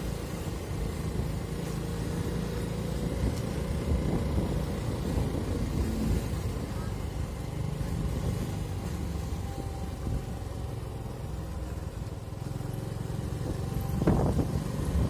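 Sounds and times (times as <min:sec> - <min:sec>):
vehicle engine driving slowly: 0:00.0 - 0:15.0.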